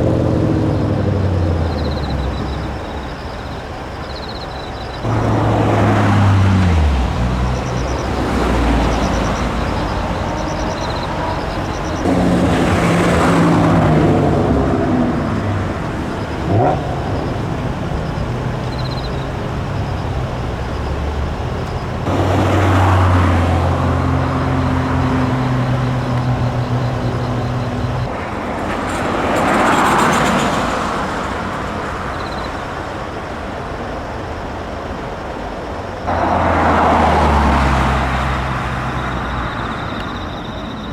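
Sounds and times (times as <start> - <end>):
cars driving past: 0.0 - 40.9.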